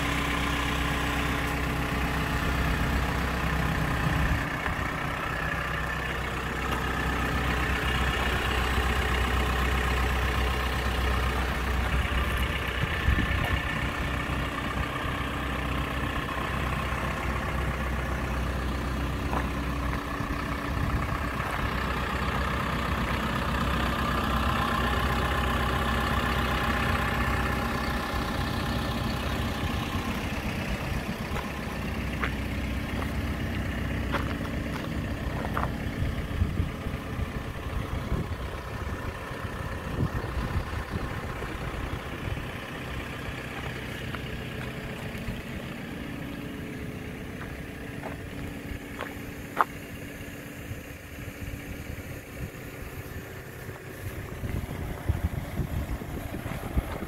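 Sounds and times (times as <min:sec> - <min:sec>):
excavator diesel engine idling: 0:00.0 - 0:57.0.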